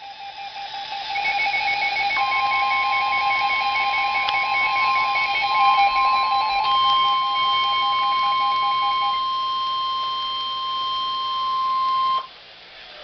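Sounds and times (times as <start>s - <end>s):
rapidly pulsing beep: 0.0s - 12.3s
steady high alarm tone: 0.0s - 12.3s.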